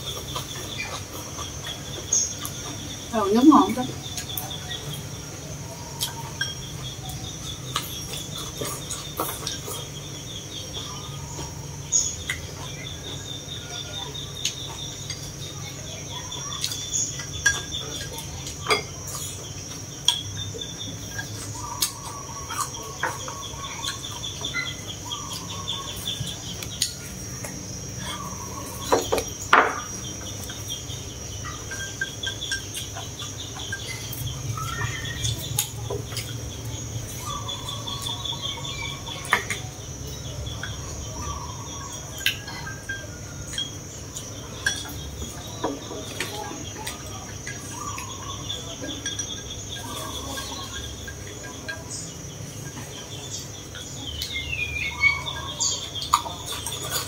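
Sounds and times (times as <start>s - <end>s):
bird calls: 0.0s - 57.0s
crickets chirping: 0.0s - 57.0s.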